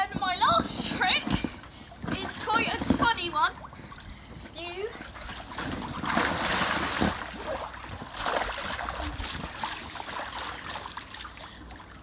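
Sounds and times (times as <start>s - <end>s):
pool water splashing: 0.0s - 12.0s
water sloshing: 0.0s - 12.0s.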